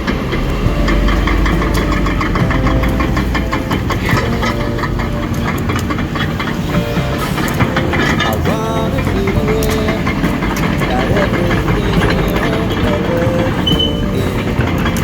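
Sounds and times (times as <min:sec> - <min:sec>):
excavator diesel engine rumbling: 0:00.0 - 0:15.0
knocks and clanks: 0:00.0 - 0:15.0
pop song playing: 0:00.0 - 0:15.0.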